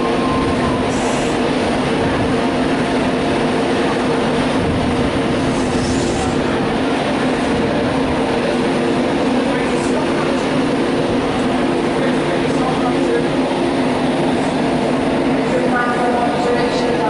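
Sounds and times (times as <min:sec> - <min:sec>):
train diesel engine drone: 0:00.0 - 0:17.0.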